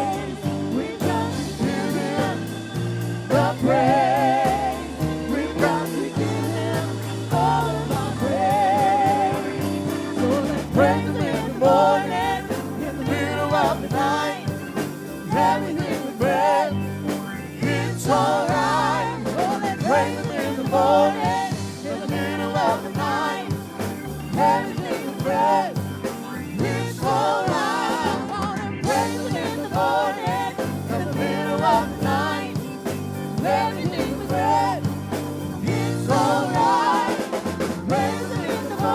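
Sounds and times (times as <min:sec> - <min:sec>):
band with bass guitar and drums: 0:00.0 - 0:38.9
gospel singing: 0:00.0 - 0:38.9.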